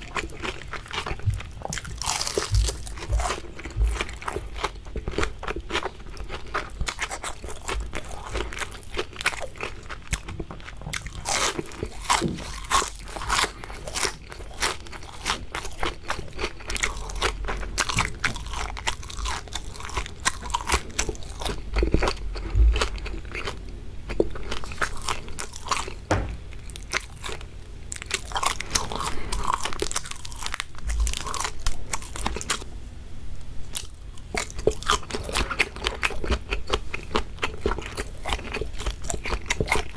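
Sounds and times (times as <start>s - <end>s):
chewing crispy fried shrimp: 0.0s - 26.0s, 26.6s - 32.7s, 33.6s - 39.9s.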